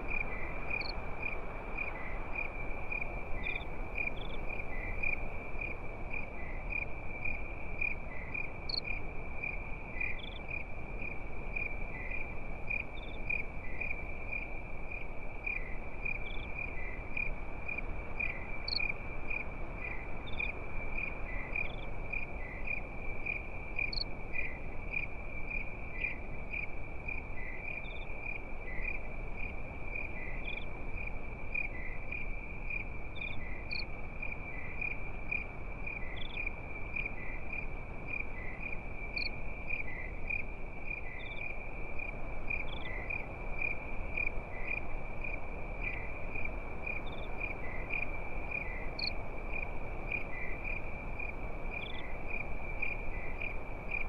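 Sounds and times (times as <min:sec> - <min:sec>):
crickets chirping: 0:00.0 - 0:54.0
soft hiss: 0:00.0 - 0:54.0.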